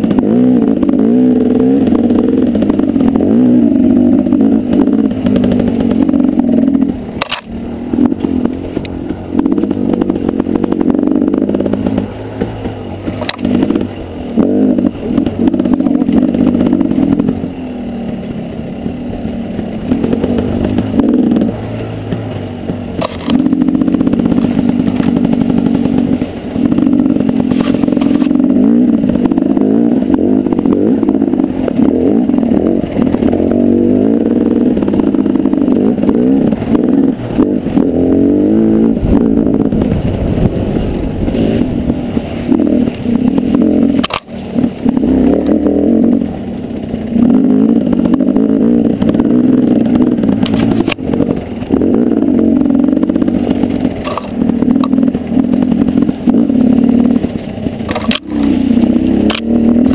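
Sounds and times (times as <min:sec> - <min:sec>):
bike rattles and knocks: 0:00.0 - 0:51.8, 0:52.5 - 0:59.9
motorcycle engine revving: 0:00.0 - 0:59.9.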